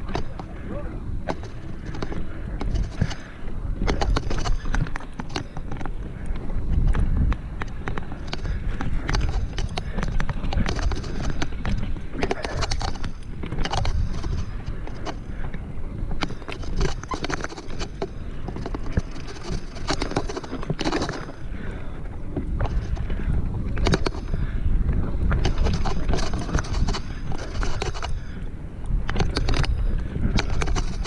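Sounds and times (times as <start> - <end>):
bike chain and frame rattling: 0.0 - 31.0
wind on microphone: 0.0 - 31.0.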